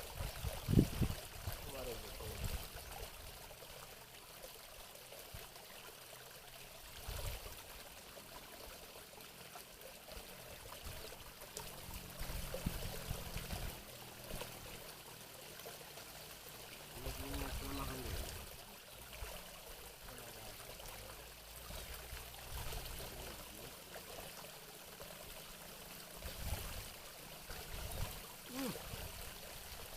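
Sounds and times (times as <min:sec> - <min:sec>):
water trickling: 0:00.0 - 0:29.9.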